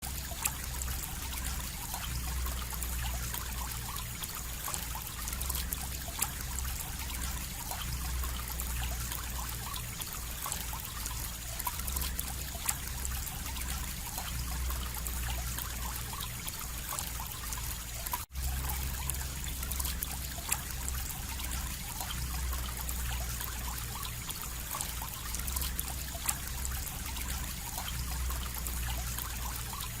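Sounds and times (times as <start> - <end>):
water trickling and dripping: 0.0 - 30.0.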